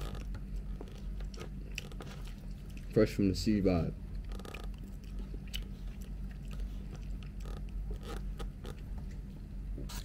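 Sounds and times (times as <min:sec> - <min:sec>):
person chewing food: 0:00.0 - 0:03.0, 0:04.1 - 0:09.3
steady low hum: 0:00.0 - 0:10.0.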